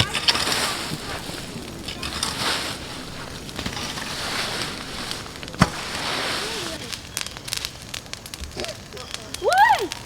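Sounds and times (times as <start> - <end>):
bonfire hissing and crackling: 0.0 - 10.0.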